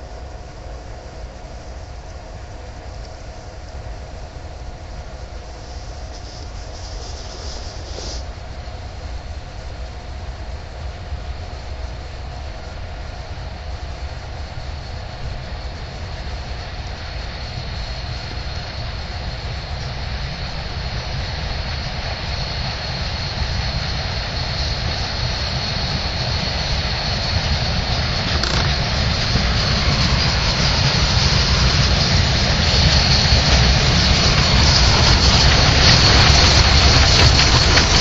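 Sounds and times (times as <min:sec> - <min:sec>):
steam locomotive rumble and hiss: 0:00.0 - 0:38.0.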